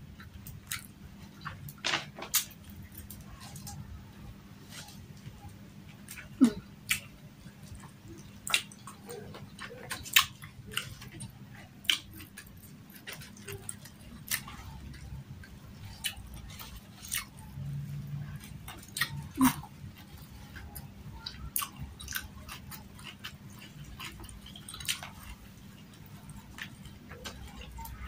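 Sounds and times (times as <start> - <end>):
faint steady hum: 0.0 - 28.0
chewing with wet mouth clicks: 0.2 - 1.6, 4.7 - 28.0.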